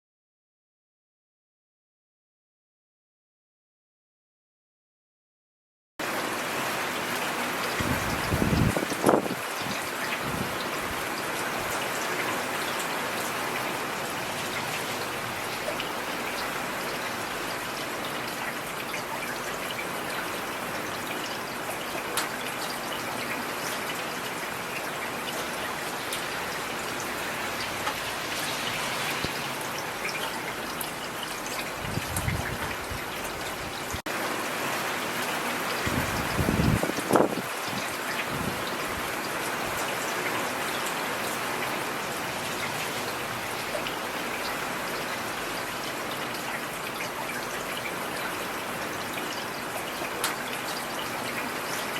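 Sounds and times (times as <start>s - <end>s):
rain falling on a street: 6.0s - 51.9s.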